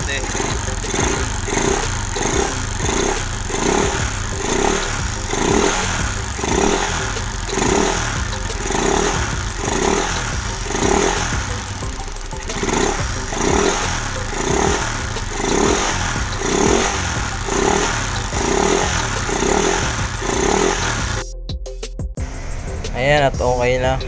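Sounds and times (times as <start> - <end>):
motorcycle engine idling: 0.0 - 21.2.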